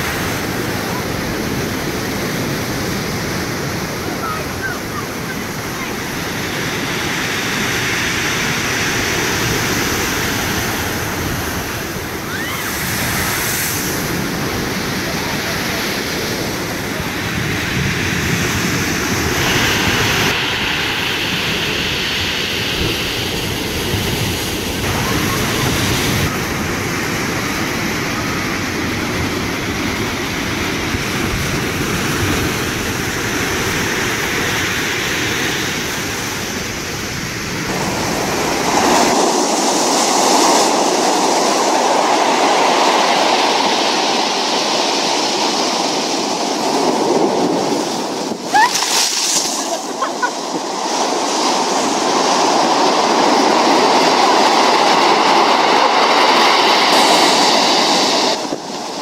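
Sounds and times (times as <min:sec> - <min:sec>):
stormy waves breaking on wall: 0:00.0 - 0:59.0.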